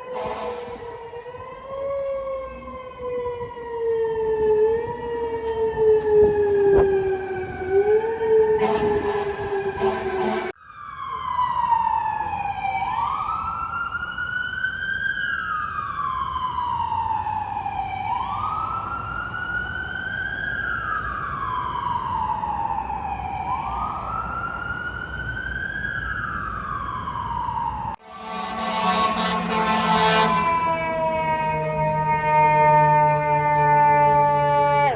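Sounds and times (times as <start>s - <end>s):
siren wailing: 0.0s - 34.9s.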